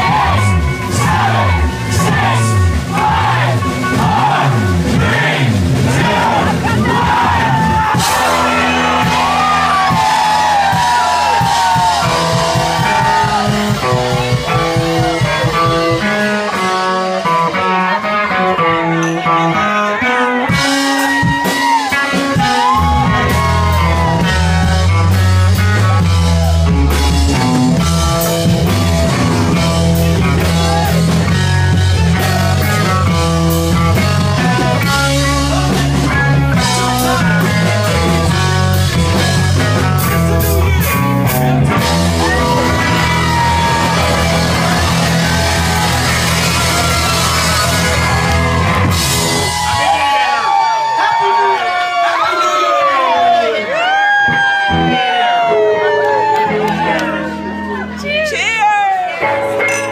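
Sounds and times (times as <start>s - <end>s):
electric guitars: 0.0s - 59.9s.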